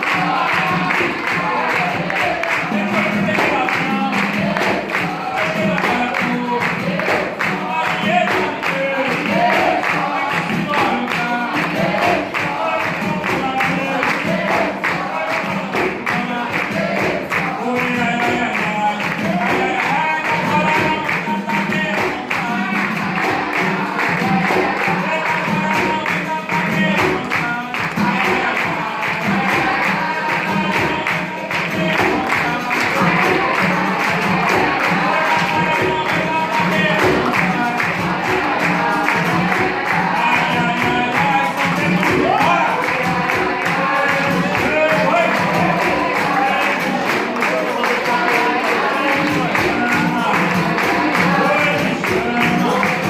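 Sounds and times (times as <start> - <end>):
group singing: 0.0 - 53.0
handclaps: 0.0 - 53.0
steady percussion: 0.0 - 53.0.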